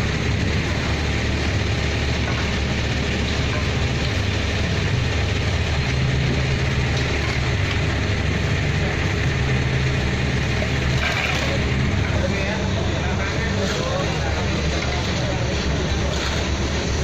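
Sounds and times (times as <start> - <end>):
heavy engine idling: 0.0 - 17.0.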